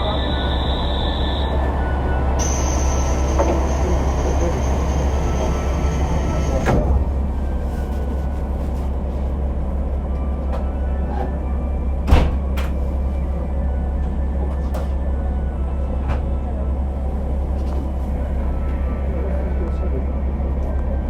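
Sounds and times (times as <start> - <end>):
muffled diesel engine rumble: 0.0 - 21.0.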